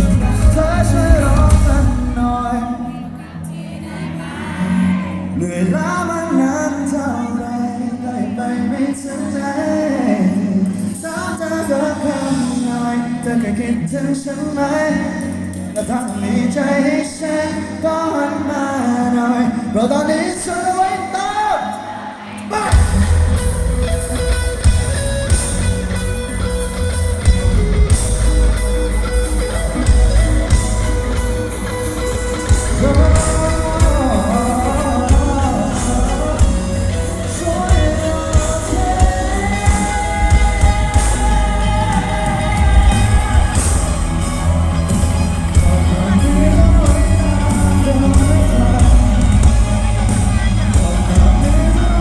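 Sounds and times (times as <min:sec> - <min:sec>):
live rock band playing: 0:00.0 - 0:19.0, 0:22.2 - 0:52.0
person singing: 0:00.0 - 0:26.0, 0:26.6 - 0:52.0.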